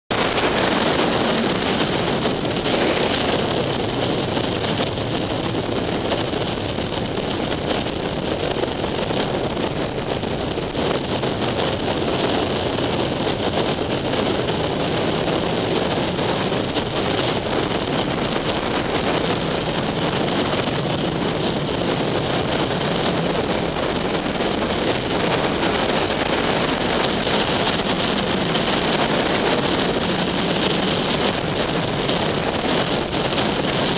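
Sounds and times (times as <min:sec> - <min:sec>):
motorcycle engine droning: 0:00.1 - 0:33.9
wind rushing over microphone: 0:00.1 - 0:33.9.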